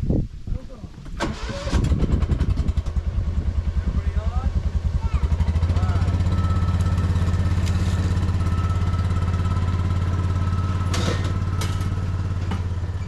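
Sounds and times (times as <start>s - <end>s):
vehicle engine running: 1.9s - 13.0s.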